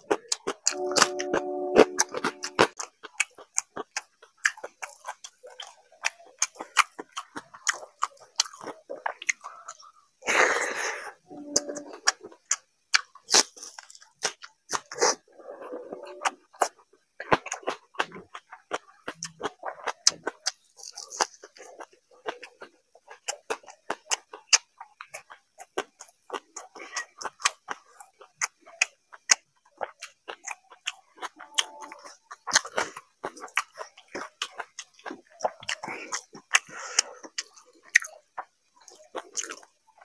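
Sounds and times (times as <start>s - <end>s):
wet chewing: 0.0s - 40.0s.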